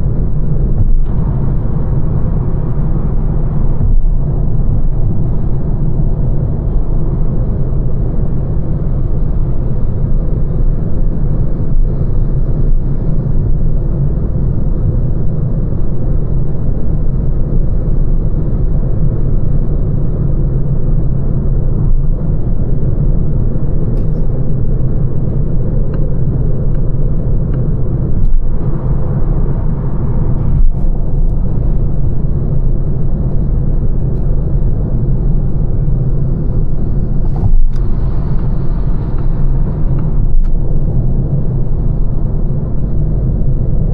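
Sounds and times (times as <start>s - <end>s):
road and tyre noise: 0.0s - 43.9s.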